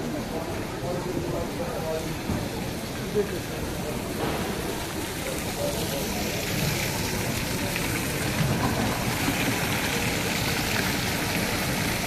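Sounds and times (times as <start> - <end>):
heavy rain and floodwater rushing: 0.0 - 12.0.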